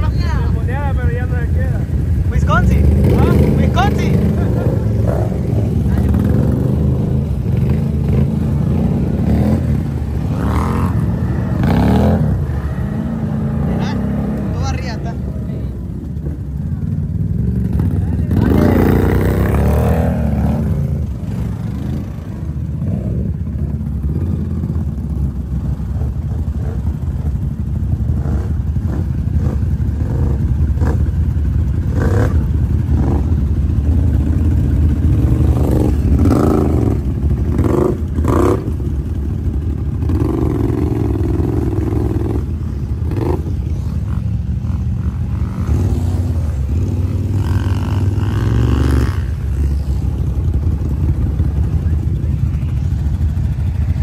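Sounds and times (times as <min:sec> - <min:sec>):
atv engines rumbling and revving: 0:00.0 - 0:54.0.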